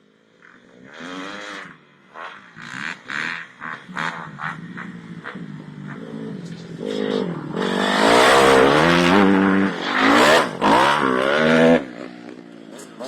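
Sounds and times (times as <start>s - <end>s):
dirt bike engine revving: 2.4s - 13.0s.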